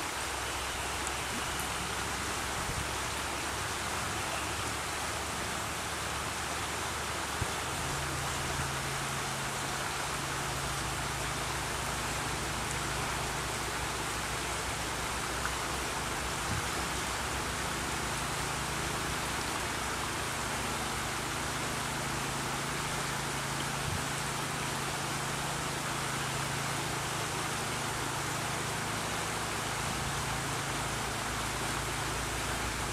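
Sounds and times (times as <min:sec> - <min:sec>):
river rushing over rapids: 0:00.0 - 0:32.9.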